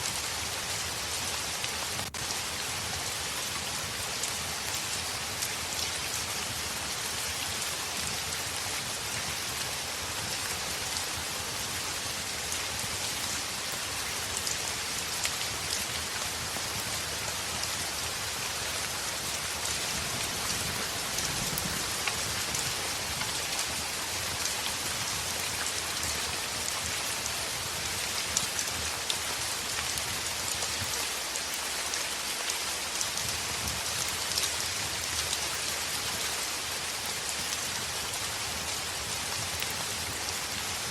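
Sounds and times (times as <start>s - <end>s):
rain on a window: 0.0s - 40.9s
raindrops ticking and tapping: 0.1s - 40.9s.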